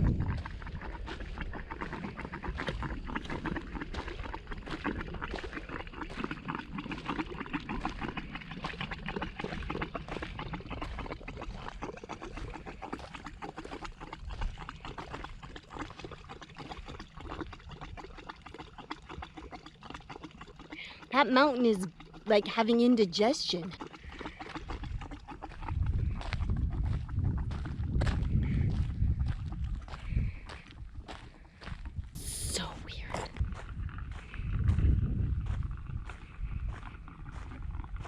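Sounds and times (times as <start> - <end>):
mud pot bubbling and gurgling: 0.0 - 38.0.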